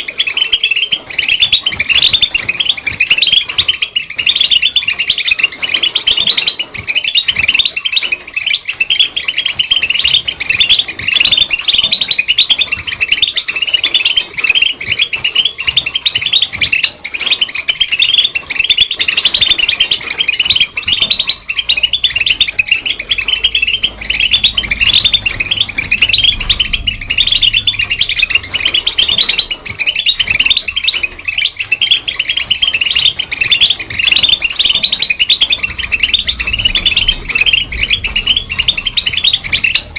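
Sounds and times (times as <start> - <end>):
bird twittering and trilling: 0.0 - 39.9.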